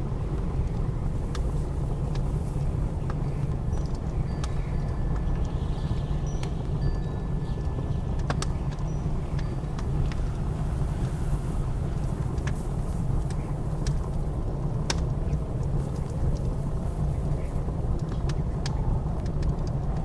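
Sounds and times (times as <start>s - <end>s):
blizzard wind roar: 0.0s - 20.0s
wood fire crackling: 0.0s - 20.0s.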